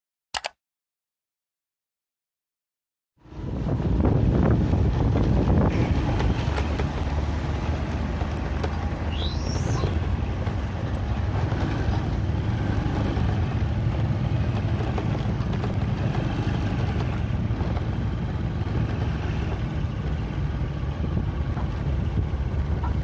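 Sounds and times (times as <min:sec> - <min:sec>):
diesel truck engine running: 0:03.2 - 0:23.0.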